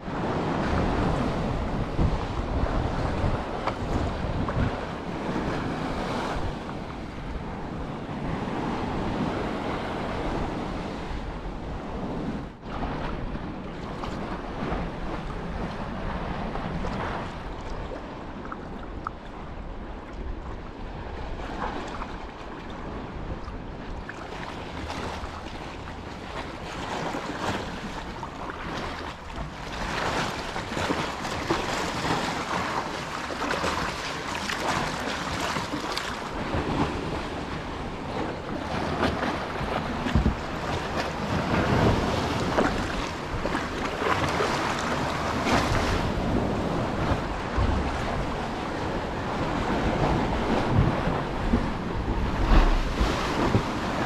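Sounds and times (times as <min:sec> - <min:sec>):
sea water lapping and splashing: 0:00.0 - 0:54.0
wind noise on microphone: 0:00.0 - 0:54.0.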